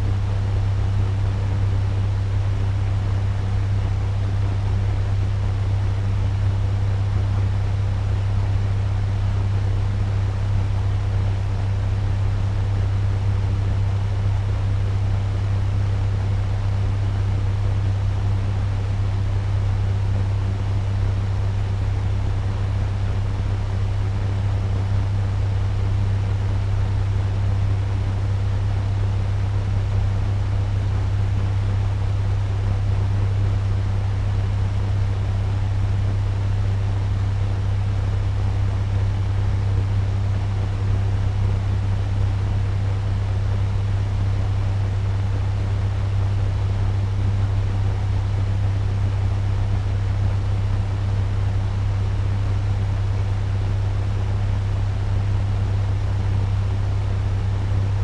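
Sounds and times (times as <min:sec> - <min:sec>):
fan running: 0:00.0 - 0:58.0.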